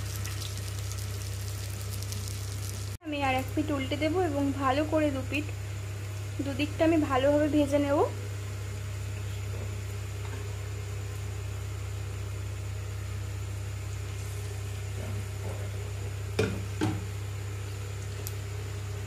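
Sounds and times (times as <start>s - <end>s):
food frying in oil: 0.0s - 19.0s
steady low hum: 0.0s - 19.0s.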